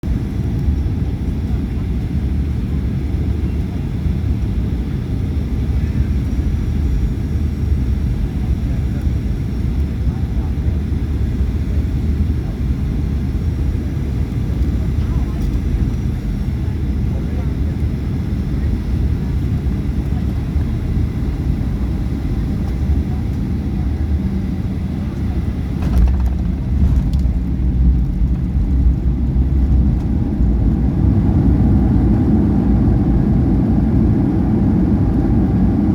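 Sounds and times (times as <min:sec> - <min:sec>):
landing aircraft rumble: 0:00.0 - 0:35.9.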